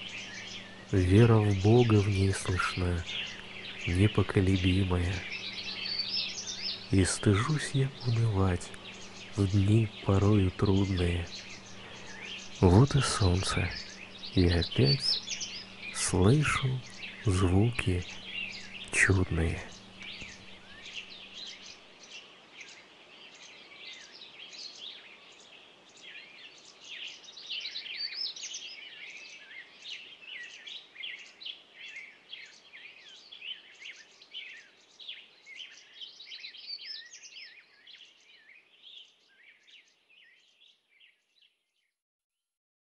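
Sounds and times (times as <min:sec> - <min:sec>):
faint background hiss: 0:00.0 - 0:41.4
small birds chirping and trilling: 0:00.0 - 0:42.0.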